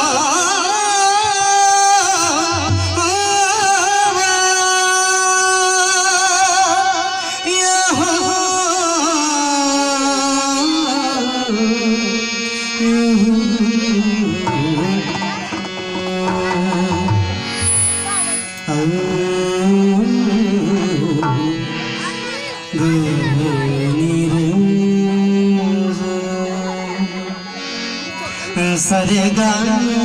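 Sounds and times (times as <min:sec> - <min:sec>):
harmonium chords: 0:00.0 - 0:30.0
man singing long notes: 0:00.0 - 0:30.0.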